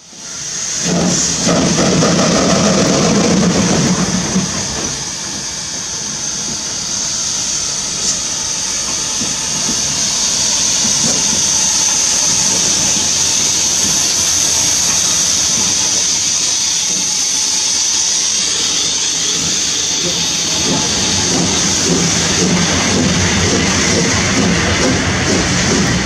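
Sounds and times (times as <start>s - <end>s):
locomotive rumble: 0.0s - 26.0s
steam hissing: 0.0s - 26.0s.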